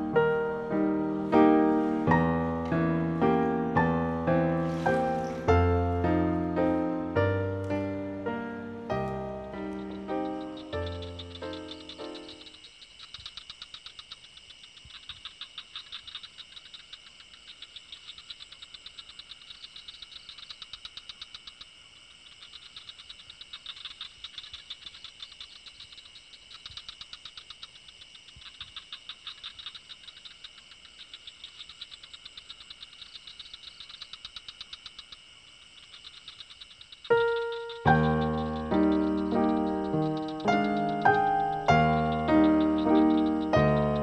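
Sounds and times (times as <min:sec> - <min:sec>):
crickets trilling: 0:00.0 - 0:44.0
frogs chirping: 0:00.0 - 0:44.0.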